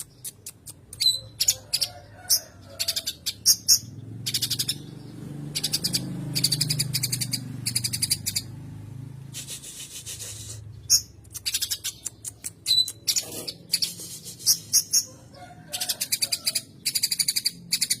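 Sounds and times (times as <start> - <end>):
sparrows chattering: 0.0 - 8.6, 9.2 - 18.0
songbird singing: 0.0 - 8.7, 9.7 - 18.0.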